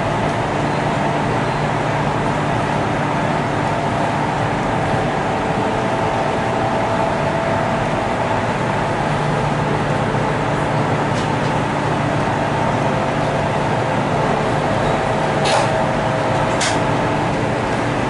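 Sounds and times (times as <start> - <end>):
train rolling and air noise: 0.0 - 18.0.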